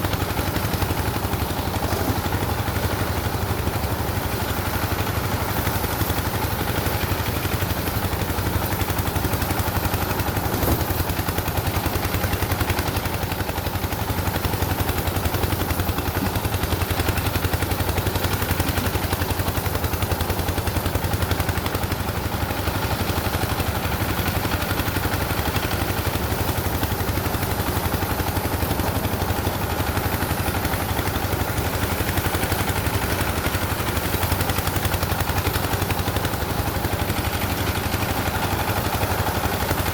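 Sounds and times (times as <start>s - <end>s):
farm machine engine chugging: 0.0s - 39.9s.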